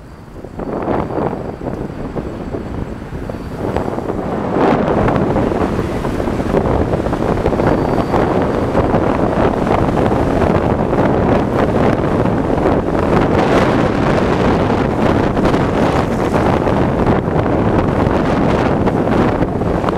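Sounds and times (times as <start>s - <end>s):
road noise: 0.0s - 19.9s
wind buffeting microphone: 0.0s - 19.9s.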